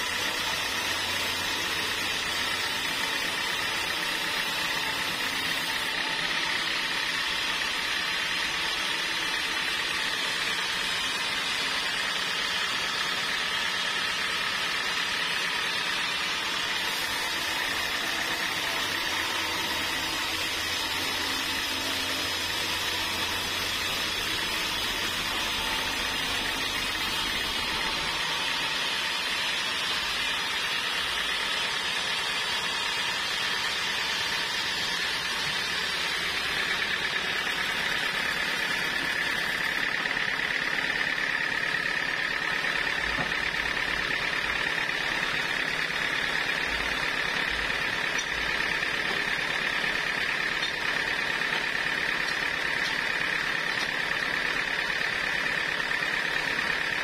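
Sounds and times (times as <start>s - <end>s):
saw blade whining through wood: 0.0s - 57.0s
saw motor running: 0.0s - 57.0s.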